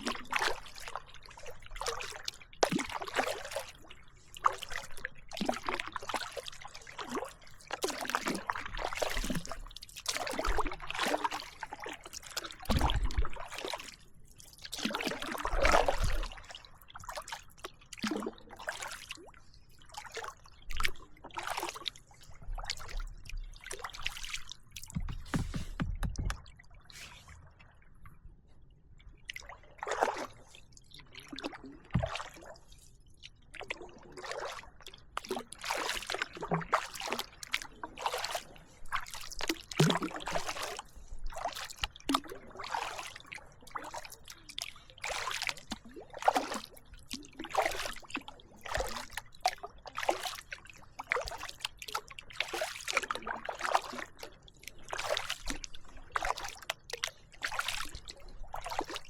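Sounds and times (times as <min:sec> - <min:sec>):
kayak paddle strokes splashing: 0:00.0 - 0:19.3, 0:20.0 - 0:27.6, 0:29.4 - 0:30.5, 0:31.2 - 0:32.8, 0:33.6 - 0:59.0.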